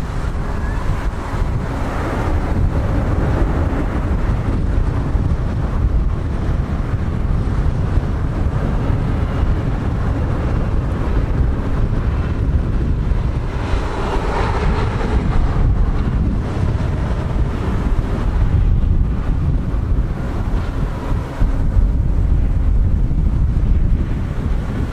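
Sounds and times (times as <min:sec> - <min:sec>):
jet engine roar: 0:00.0 - 0:24.9
wind buffeting microphone: 0:00.0 - 0:24.9.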